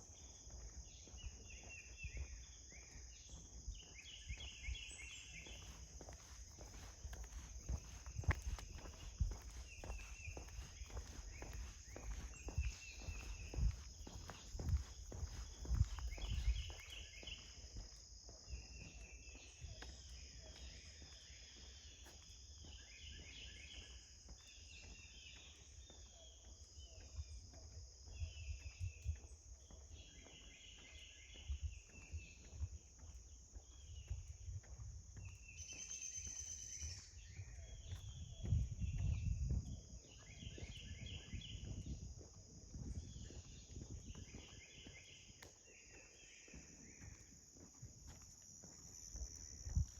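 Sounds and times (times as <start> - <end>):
crickets droning: 0.0 - 49.9
insect chirping phrases: 0.0 - 49.9.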